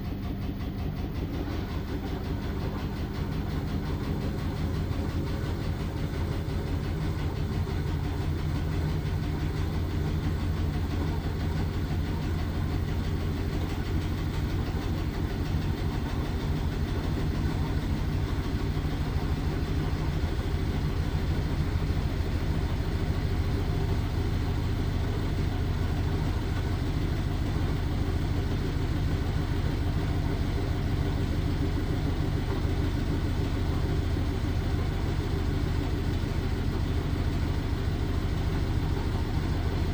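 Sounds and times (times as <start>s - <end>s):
washing machine droning: 0.0s - 39.9s.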